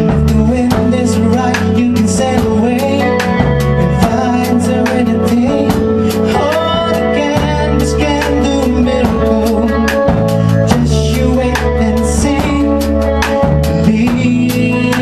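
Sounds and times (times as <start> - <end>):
bass guitar: 0.0 - 15.0
drum kit: 0.0 - 15.0
electric guitar: 0.0 - 15.0
man singing: 0.0 - 15.0.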